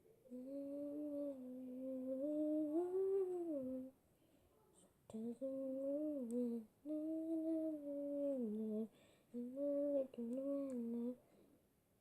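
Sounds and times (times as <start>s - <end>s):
person humming a slow tune: 0.2s - 3.9s, 5.1s - 11.2s.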